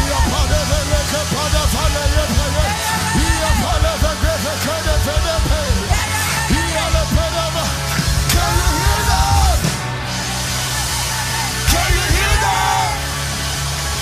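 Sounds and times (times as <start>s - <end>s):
live band with bass and drums: 0.0s - 14.0s.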